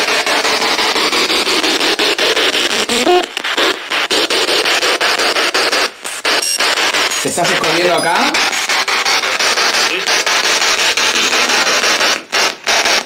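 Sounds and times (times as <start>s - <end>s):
snatch of broadcast sound: 0.0s - 13.0s
radio scanner hiss and static: 2.5s - 13.0s.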